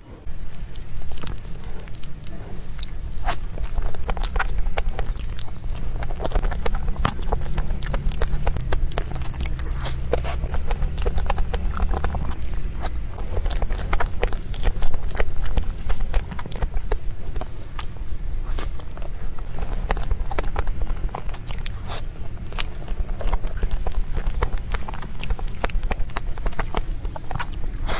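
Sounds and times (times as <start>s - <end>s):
low steady hum: 0.0s - 27.9s
chewing with wet mouth clicks: 0.2s - 27.9s.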